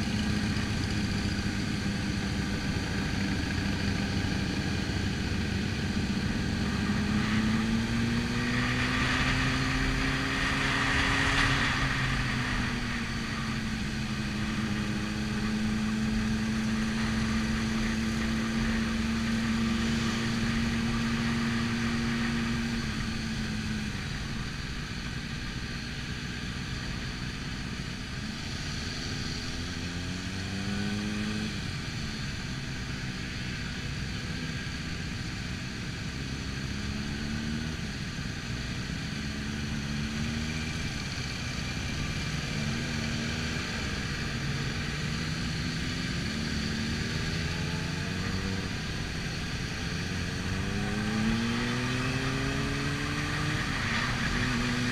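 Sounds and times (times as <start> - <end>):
motorcycle engine running: 0.0 - 54.9
other motorcycles riding alongside: 0.0 - 54.9.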